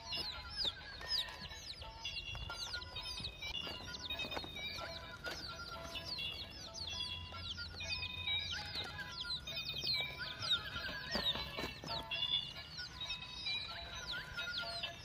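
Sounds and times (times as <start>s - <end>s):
birds chirping: 0.0s - 15.0s
music: 0.0s - 15.0s.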